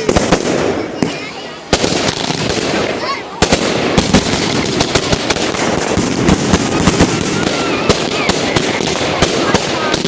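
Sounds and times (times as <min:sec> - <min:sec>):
firework bangs: 0:00.0 - 0:10.0
firework crackling: 0:00.0 - 0:10.0.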